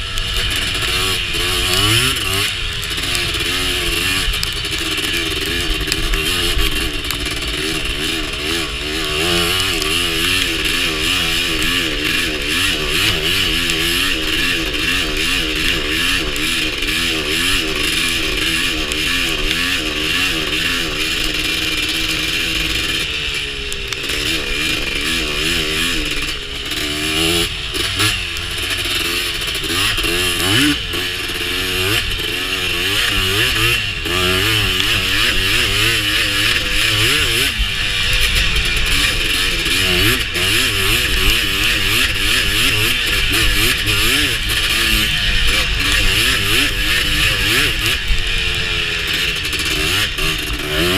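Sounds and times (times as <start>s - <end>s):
quad bike engine revving: 0.0s - 50.9s.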